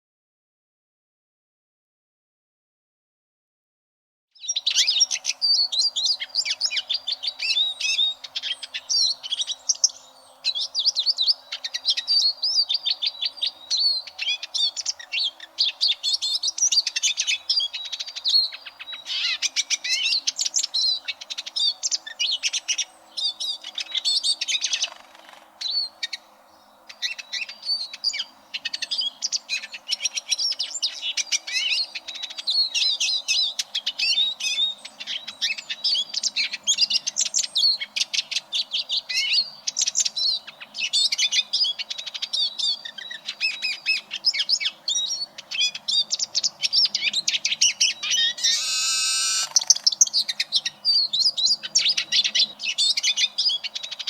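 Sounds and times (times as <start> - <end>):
bird twittering song: 4.4 - 54.0.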